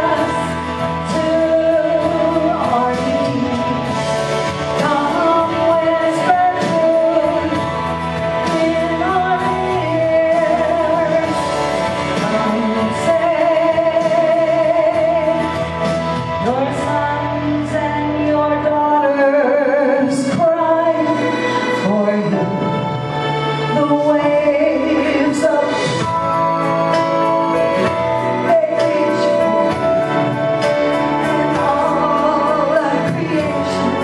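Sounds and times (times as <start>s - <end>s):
instrumental backing music: 0.0s - 34.0s
woman singing with vibrato: 0.0s - 34.0s.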